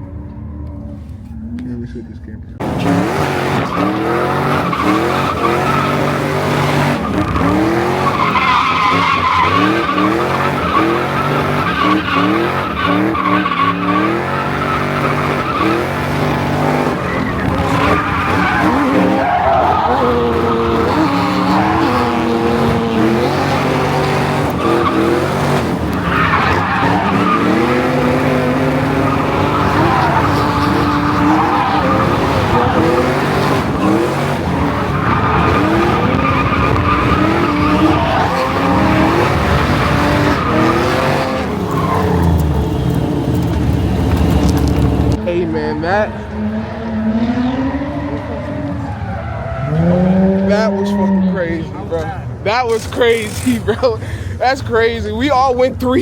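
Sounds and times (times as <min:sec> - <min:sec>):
car engine revving hard: 0:02.6 - 0:51.8
tires skidding and squealing: 0:02.6 - 0:56.0.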